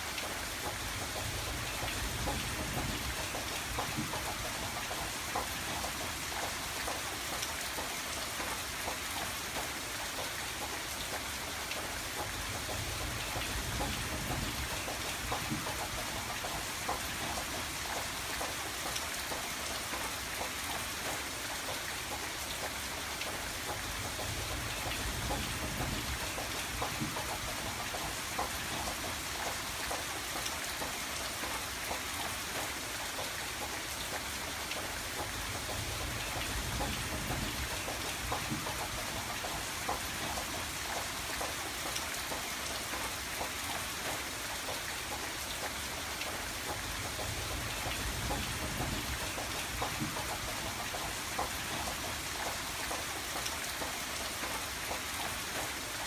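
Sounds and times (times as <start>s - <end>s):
rain on window glass: 0.0s - 56.0s.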